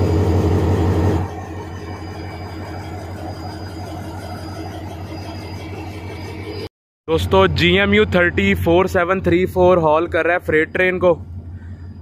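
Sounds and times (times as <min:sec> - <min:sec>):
faint high whine: 0:00.0 - 0:12.0
locomotive engine idling: 0:00.0 - 0:12.0.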